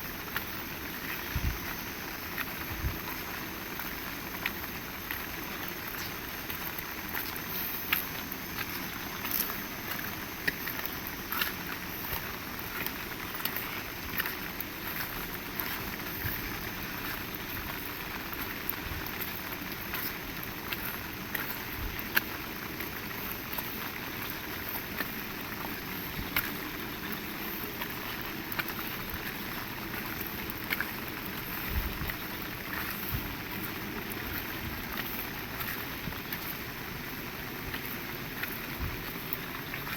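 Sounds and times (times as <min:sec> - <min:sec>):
raindrops tapping surfaces: 0:00.0 - 0:39.9.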